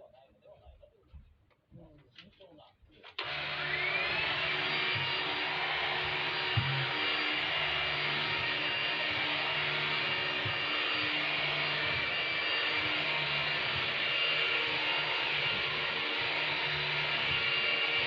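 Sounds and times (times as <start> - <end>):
vacuum cleaner running: 3.2 - 18.0.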